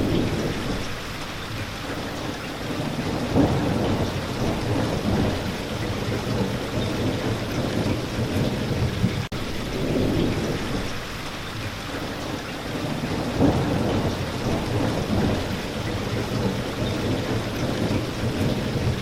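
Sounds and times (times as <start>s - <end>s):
thunder rumbling: 0.0s - 1.2s, 2.7s - 11.2s, 12.7s - 19.0s
rain falling: 0.0s - 19.0s.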